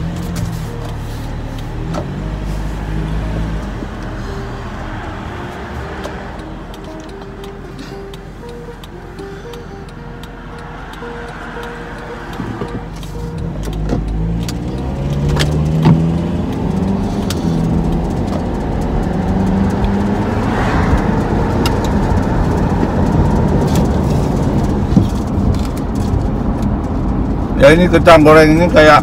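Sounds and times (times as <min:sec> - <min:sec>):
car engine pulling away: 0:00.0 - 0:29.0
road noise while driving: 0:00.0 - 0:29.0.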